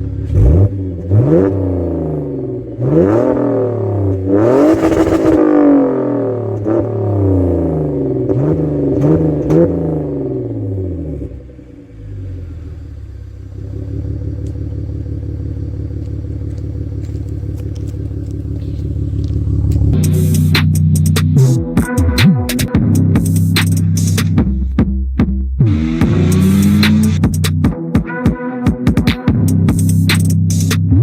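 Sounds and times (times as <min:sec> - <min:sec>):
car engine revving and idling: 0:00.0 - 0:27.8, 0:29.2 - 0:31.0.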